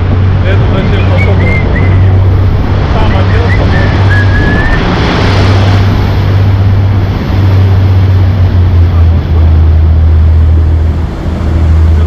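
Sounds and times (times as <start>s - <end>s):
motorboat engine droning: 0.0s - 12.0s
wind and water rushing: 0.0s - 12.0s.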